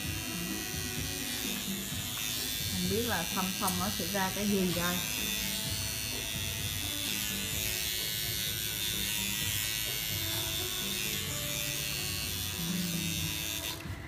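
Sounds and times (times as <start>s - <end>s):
tattoo machine buzzing: 0.0s - 14.0s.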